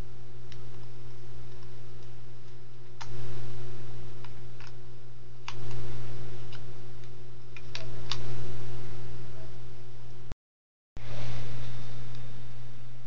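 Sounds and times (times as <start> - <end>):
steady low hum: 0.0 - 10.4, 11.0 - 13.0.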